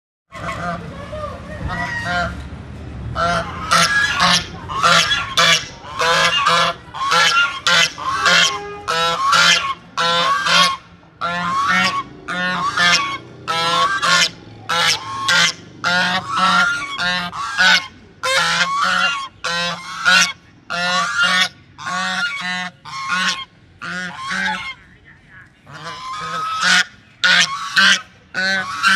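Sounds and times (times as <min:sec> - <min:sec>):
waterfowl honking: 0:00.3 - 0:00.9, 0:01.7 - 0:02.4, 0:03.2 - 0:28.9.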